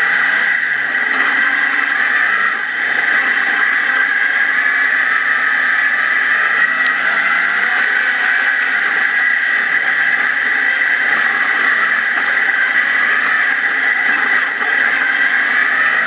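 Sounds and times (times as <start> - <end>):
buggy engine drone: 0.0 - 16.0.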